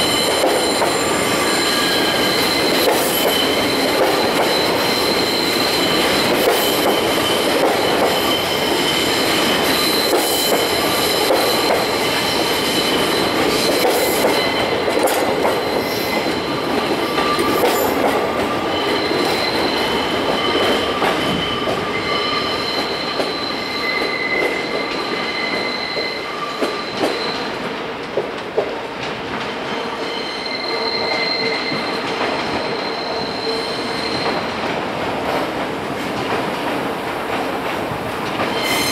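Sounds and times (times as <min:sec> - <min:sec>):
train wheels squealing: 0:00.0 - 0:27.7, 0:29.6 - 0:34.7, 0:38.4 - 0:38.9.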